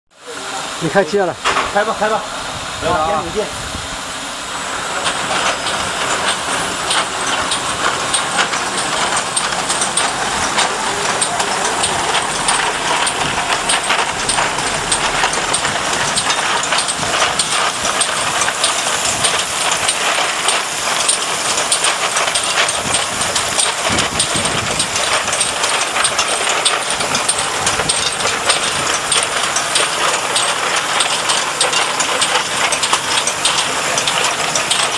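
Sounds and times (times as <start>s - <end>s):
washing machine mechanical noise: 0.2s - 34.9s
rapid small clicks: 5.0s - 34.9s.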